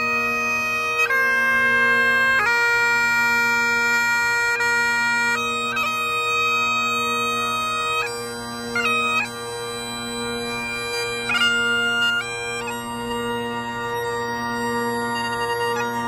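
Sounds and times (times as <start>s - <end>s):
bagpipe playing slow melody: 0.0s - 16.0s.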